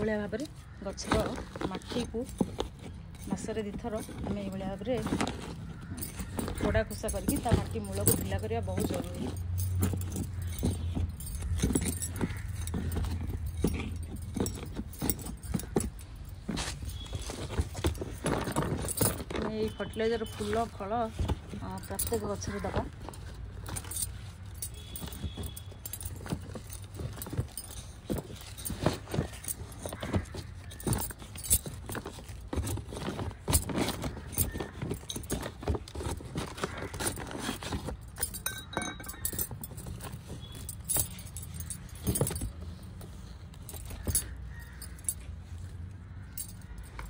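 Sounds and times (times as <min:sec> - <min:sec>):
clinks and rattles: 0:00.0 - 0:47.0.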